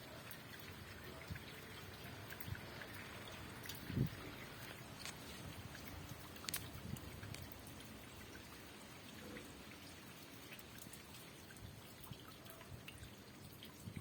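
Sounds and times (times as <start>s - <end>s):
raindrops pattering: 0.0s - 14.0s.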